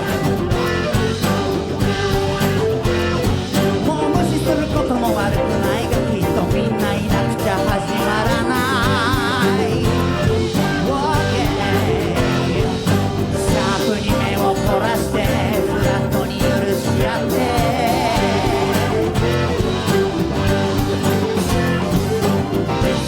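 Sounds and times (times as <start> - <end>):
bass: 0.0 - 23.0
drums: 0.0 - 23.0
guitar: 0.0 - 23.0
piano: 0.0 - 23.0
wavering melody line: 0.0 - 23.0.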